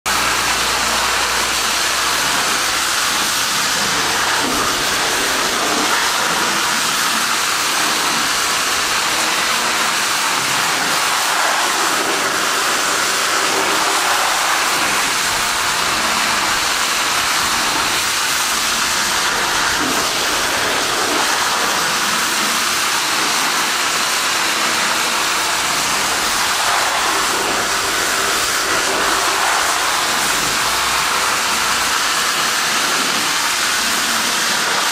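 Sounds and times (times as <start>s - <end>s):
water jet spraying and splashing: 0.1s - 34.9s.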